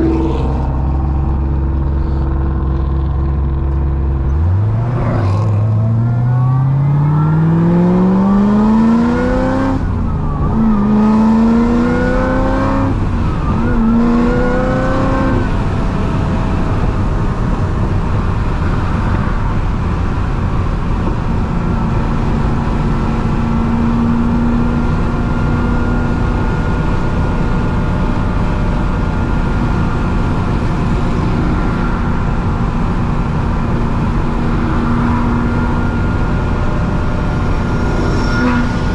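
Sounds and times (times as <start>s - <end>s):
car engine accelerating: 0.0s - 38.9s
road and wind noise: 0.0s - 38.9s
supercharger whine: 0.0s - 38.9s.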